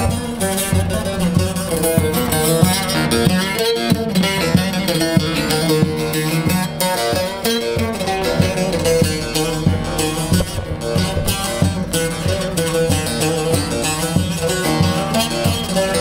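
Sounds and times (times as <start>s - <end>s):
plucked lute folk melody: 0.0s - 16.0s.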